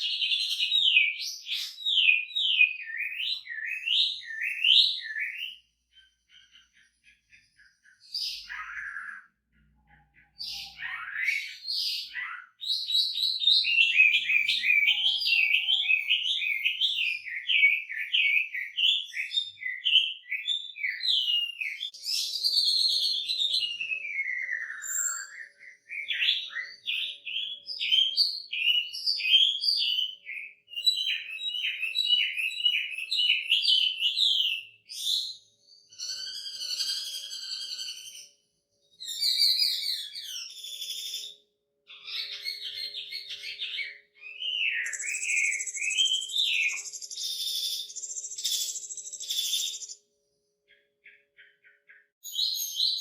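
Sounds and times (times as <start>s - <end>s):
songbird whistles and trills: 0.0s - 50.0s, 50.7s - 53.0s.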